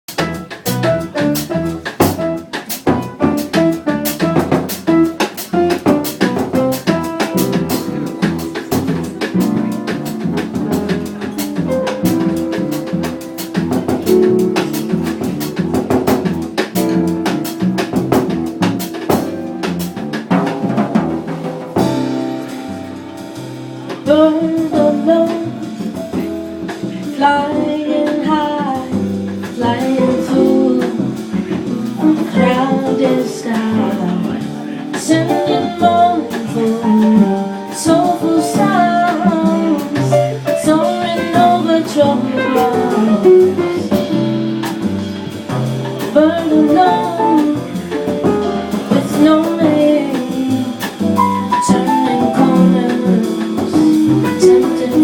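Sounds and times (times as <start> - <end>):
drum kit with rimshots: 0.1 - 55.0
latin jazz band playing: 0.1 - 55.0.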